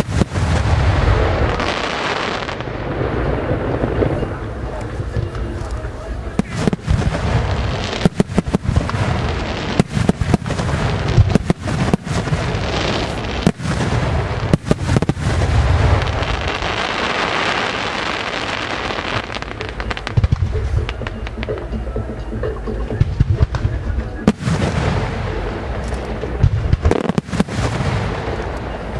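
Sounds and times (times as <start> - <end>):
dense continuous firework noise: 0.0 - 28.9.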